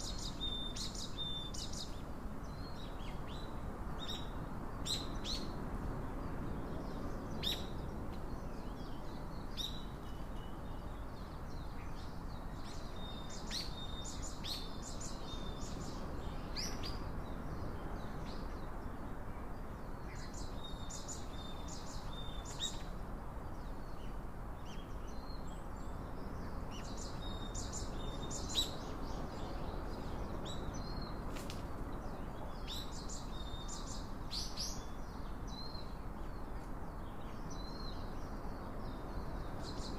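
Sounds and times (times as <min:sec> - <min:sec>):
outdoor background hiss: 0:00.0 - 0:39.9
small birds chirping: 0:06.2 - 0:39.9.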